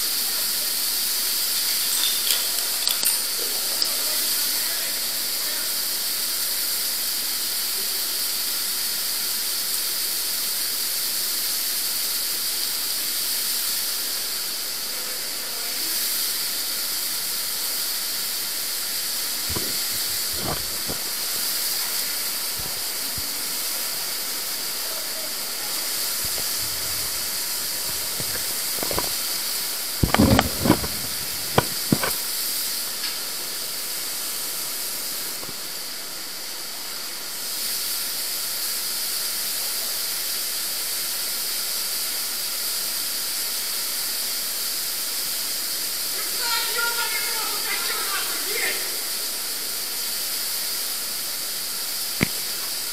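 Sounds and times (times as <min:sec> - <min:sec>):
water rushing in tunnel: 0:00.0 - 0:52.9.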